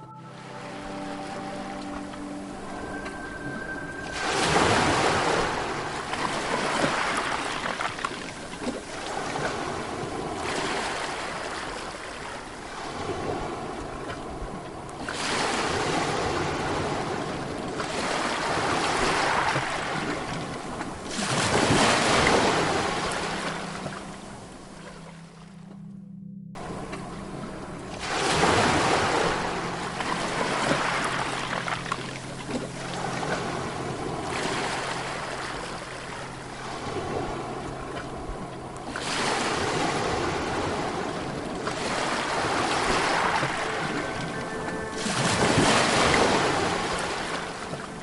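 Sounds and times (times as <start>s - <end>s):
waves breaking on beach: 0.0s - 25.0s, 26.6s - 48.0s.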